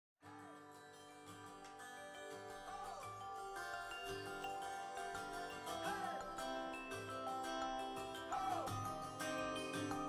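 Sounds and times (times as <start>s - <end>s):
instrumental music with sliding melody: 1.4s - 10.0s.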